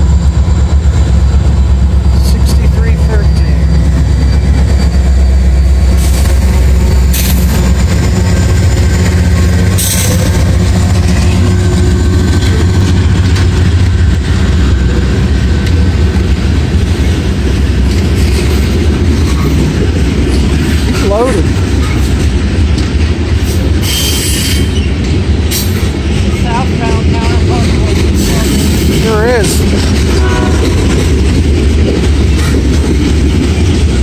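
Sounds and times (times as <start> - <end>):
diesel locomotive engines rumbling: 0.0 - 34.0
wheels clattering on rails: 0.0 - 34.0.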